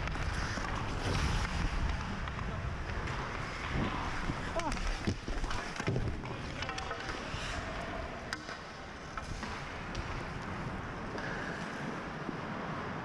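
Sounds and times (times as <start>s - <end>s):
skate blades scraping on ice: 0.0s - 7.7s, 8.9s - 13.0s.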